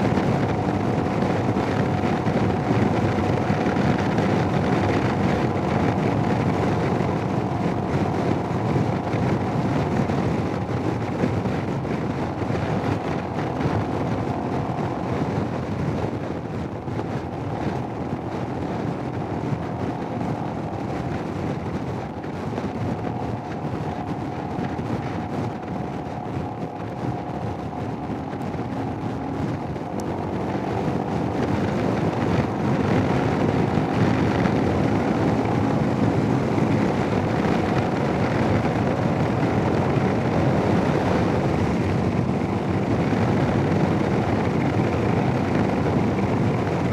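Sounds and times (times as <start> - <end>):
motorcycle engine running: 0.0 - 46.9
wind rush: 0.0 - 46.9.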